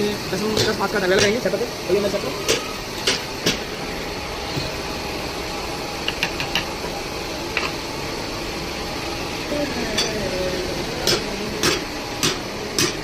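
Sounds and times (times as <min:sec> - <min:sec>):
workshop machine humming: 0:00.0 - 0:13.0.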